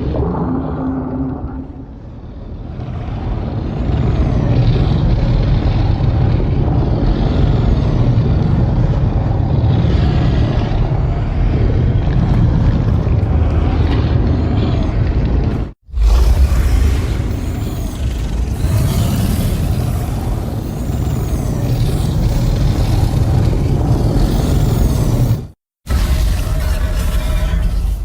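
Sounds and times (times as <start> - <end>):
deep dense rumble: 0.0 - 24.4.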